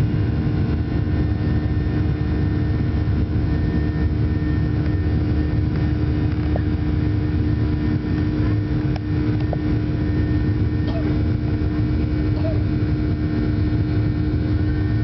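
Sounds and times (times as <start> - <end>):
jet engines rumbling in cabin: 0.0 - 15.0.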